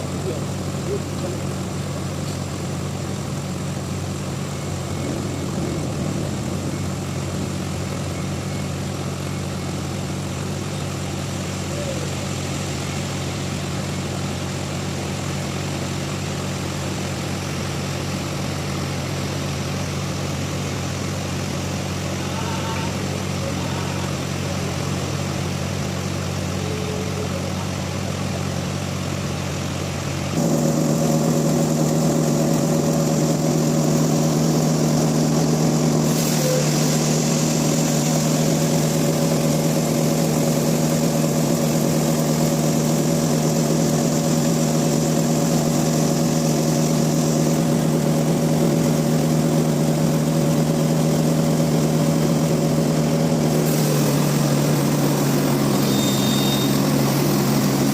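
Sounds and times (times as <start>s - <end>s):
sawmill machinery humming: 0.0s - 57.9s.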